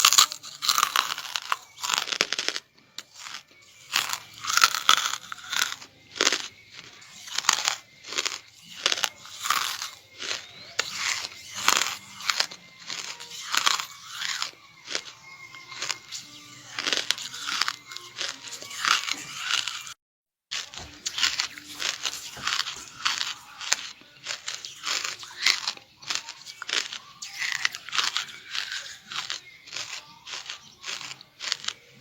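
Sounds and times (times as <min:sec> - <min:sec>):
charcoal crunching while chewed: 0:00.0 - 0:32.0.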